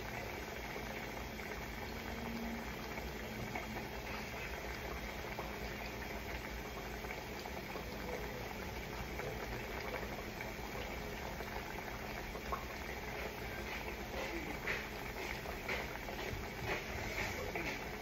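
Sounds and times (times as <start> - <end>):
pot boiling and bubbling: 0.0 - 18.0.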